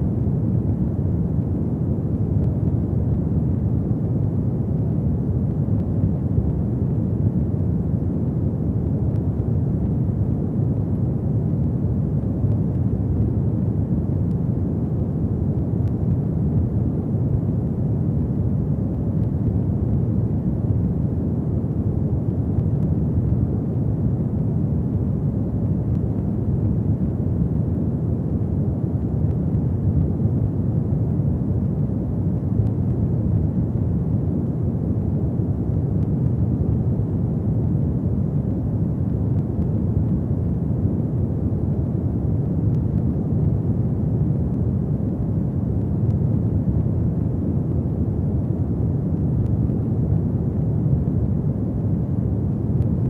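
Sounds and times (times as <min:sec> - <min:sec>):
faint fire crackles: 0:00.0 - 0:53.0.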